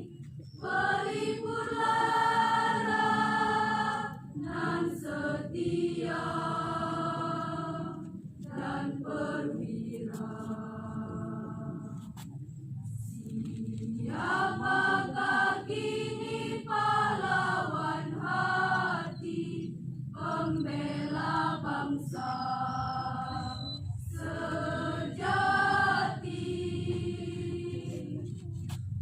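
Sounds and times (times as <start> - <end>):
choir singing: 0.0 - 12.1, 13.0 - 28.4.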